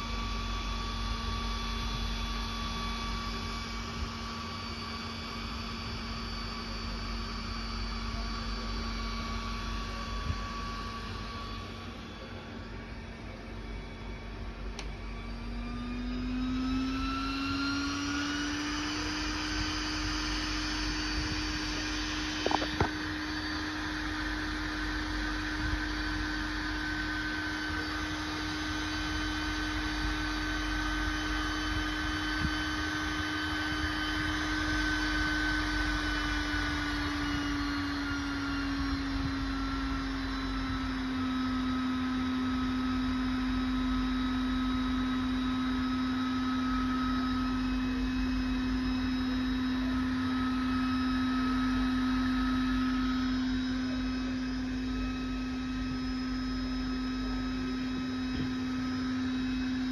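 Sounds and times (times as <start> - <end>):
cooling fan whirring: 0.0 - 59.9.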